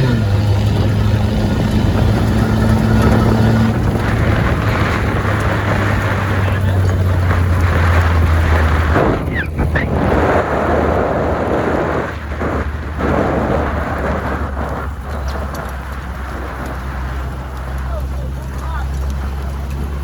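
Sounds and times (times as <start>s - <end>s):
rushing wind noise: 0.0s - 20.0s
vehicle engine running: 0.0s - 20.0s.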